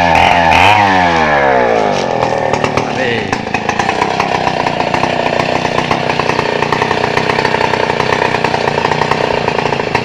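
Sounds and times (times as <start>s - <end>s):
chainsaw engine running: 0.0s - 10.0s.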